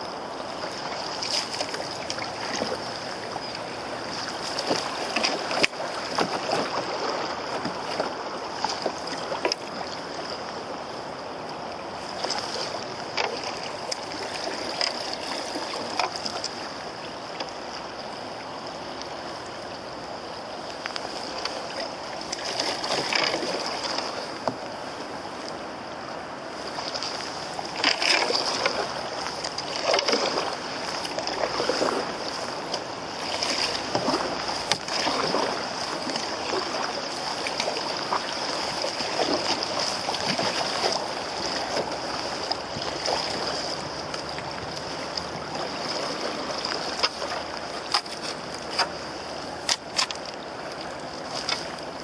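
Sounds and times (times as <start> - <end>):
water splashing against canoe hull: 0.0 - 52.0.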